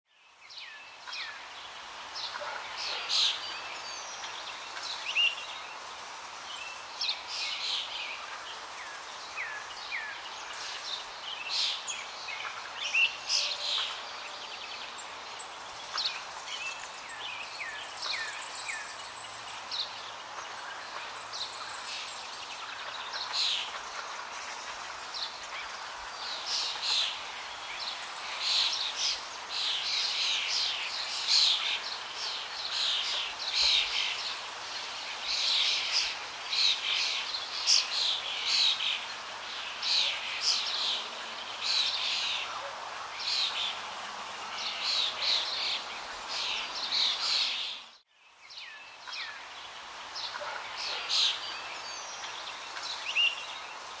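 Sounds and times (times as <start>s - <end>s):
background hiss: 0.1s - 54.0s
songbirds chirping: 0.1s - 54.0s.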